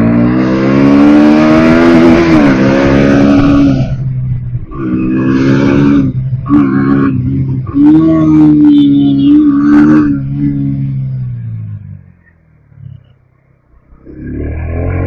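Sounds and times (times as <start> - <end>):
motorcycle engine revving hard: 0.0 - 12.0, 13.9 - 15.0.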